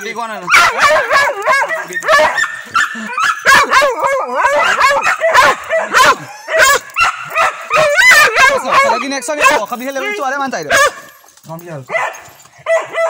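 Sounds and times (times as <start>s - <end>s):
dog barking and yelping: 0.4s - 11.3s, 11.9s - 13.0s.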